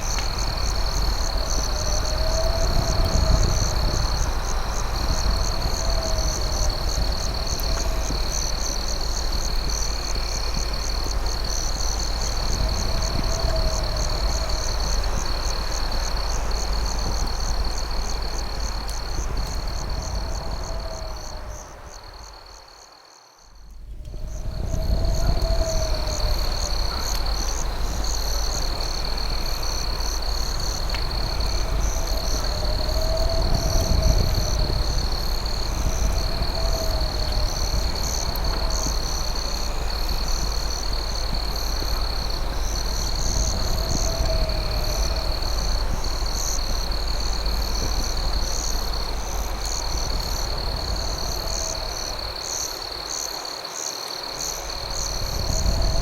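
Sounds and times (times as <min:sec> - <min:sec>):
low steady rumble: 0:00.0 - 0:22.4, 0:23.6 - 0:52.8
crickets chirping: 0:00.0 - 0:56.0
rising and falling insect call: 0:00.0 - 0:56.0
steady high insect trill: 0:00.0 - 0:56.0.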